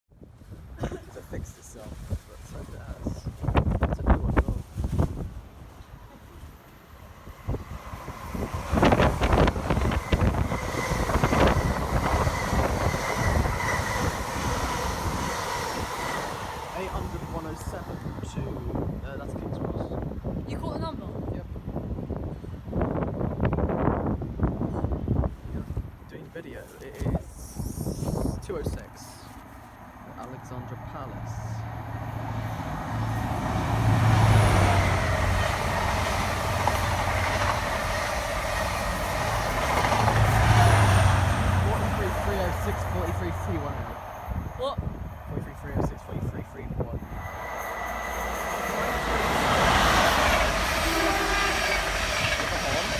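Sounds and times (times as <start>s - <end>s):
train rumbling past: 1.3s - 25.3s, 28.2s - 52.9s.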